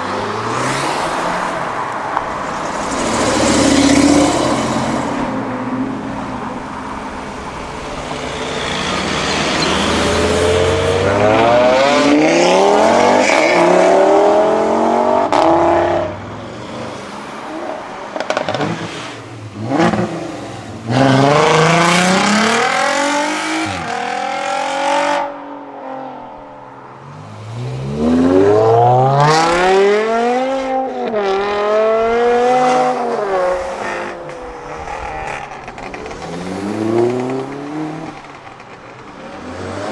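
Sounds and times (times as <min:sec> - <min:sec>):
cars accelerating hard: 0:00.0 - 0:26.3, 0:27.0 - 0:39.9.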